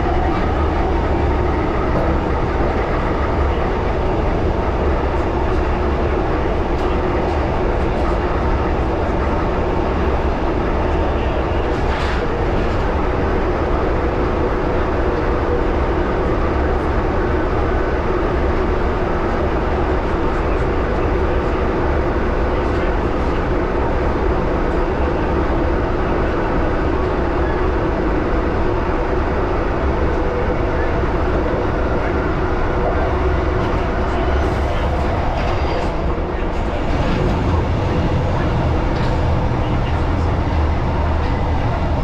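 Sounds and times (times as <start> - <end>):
train wheels and motors rumbling: 0.0 - 42.0.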